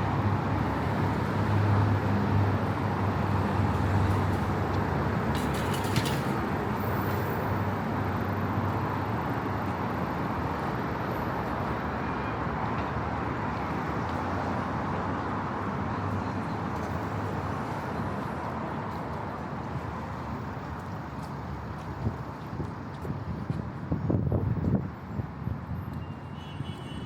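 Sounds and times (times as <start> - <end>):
road traffic hum: 0.0 - 27.0.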